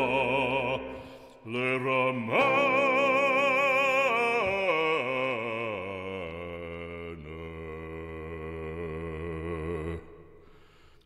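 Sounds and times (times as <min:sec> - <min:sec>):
operatic singing with accompaniment: 0:00.0 - 0:10.4.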